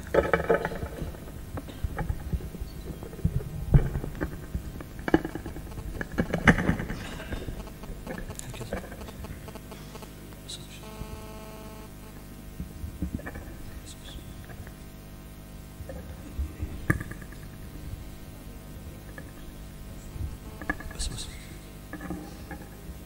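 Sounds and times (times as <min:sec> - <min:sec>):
microphone handling clicks and thumps: 0:00.0 - 0:14.9, 0:15.8 - 0:18.1, 0:19.0 - 0:22.8.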